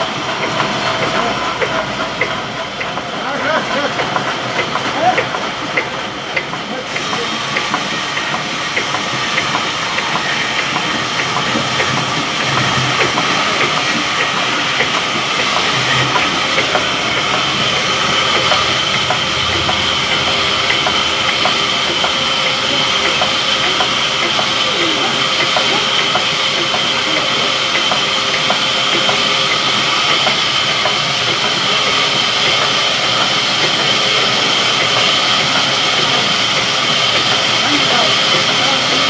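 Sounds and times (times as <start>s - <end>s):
workers' voices: 0.0s - 39.0s
band saw whining: 6.9s - 39.0s.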